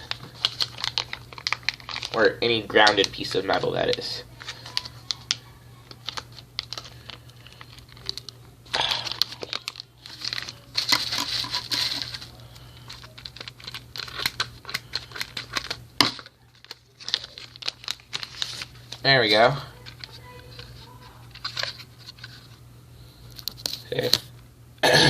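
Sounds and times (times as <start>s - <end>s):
plastic packaging crinkling: 0.0s - 22.6s.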